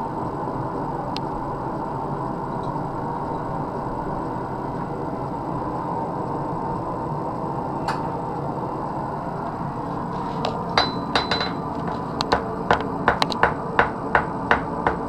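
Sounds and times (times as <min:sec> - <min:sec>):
forge roaring: 0:00.0 - 0:15.0.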